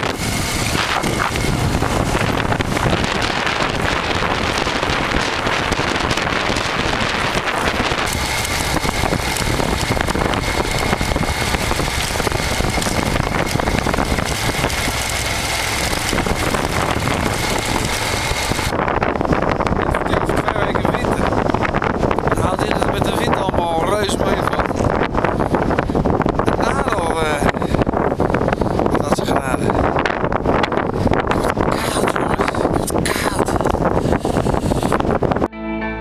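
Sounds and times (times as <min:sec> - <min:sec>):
wind rushing over microphone: 0:00.0 - 0:35.5
vehicle running noise: 0:00.0 - 0:36.0.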